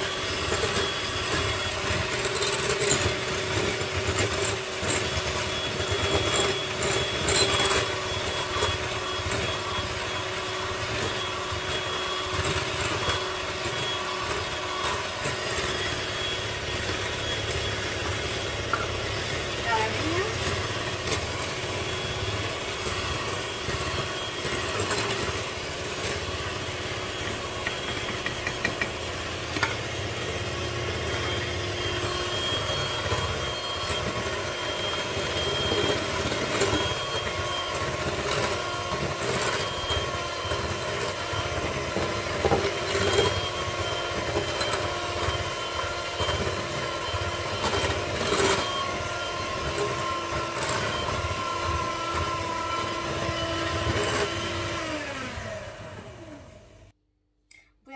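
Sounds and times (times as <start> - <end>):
electric hand mixer running: 0.0 - 56.9.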